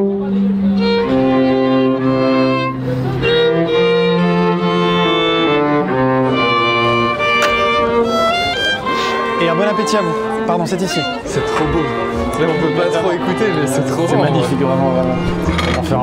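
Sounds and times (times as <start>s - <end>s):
cello low line: 0.0s - 16.0s
violin melody: 0.0s - 16.0s.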